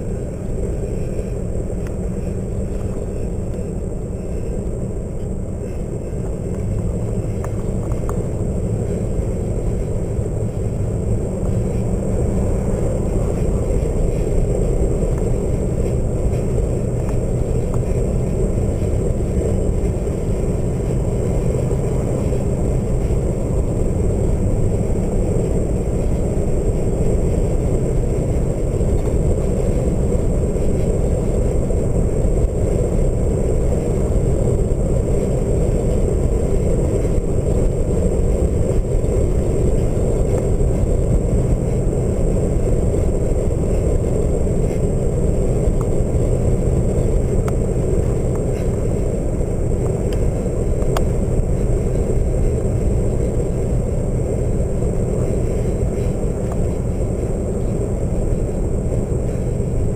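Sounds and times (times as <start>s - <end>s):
road noise: 0.0s - 59.9s
wind noise in moving car: 0.0s - 59.9s.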